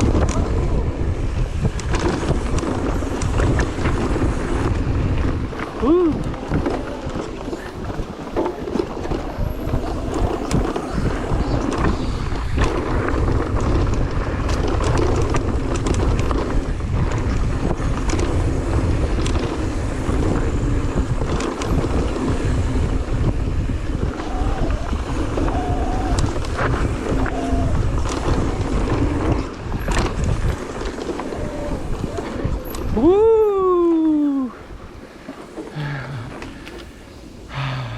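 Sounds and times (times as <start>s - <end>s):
wind buffeting microphone: 0.0s - 37.6s.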